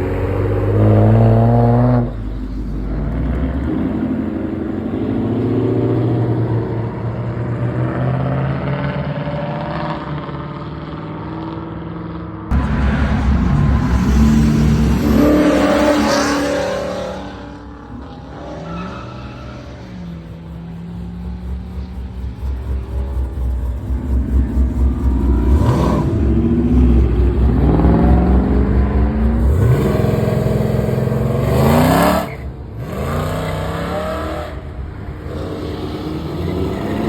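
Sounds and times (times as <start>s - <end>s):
car engines revving and accelerating: 0.0s - 37.0s.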